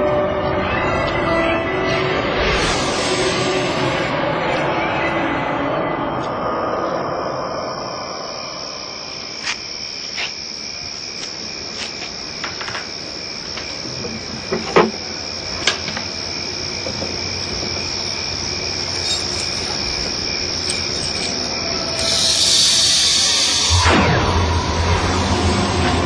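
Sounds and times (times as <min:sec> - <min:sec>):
crickets trilling: 0:02.5 - 0:26.0.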